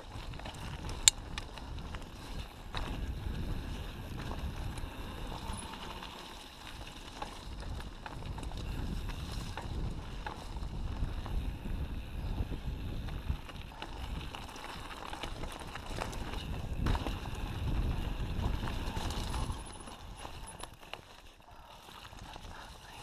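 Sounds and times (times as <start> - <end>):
wind buffeting microphone: 0.0 - 5.8, 6.7 - 20.5
bike clicks and rattles: 0.0 - 23.0
bike tyres on gravel trail: 0.0 - 23.0.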